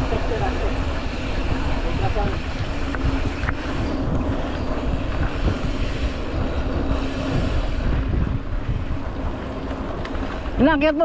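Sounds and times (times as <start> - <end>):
steady low hum: 0.0 - 10.6
wind rumbling on microphone: 0.0 - 11.0.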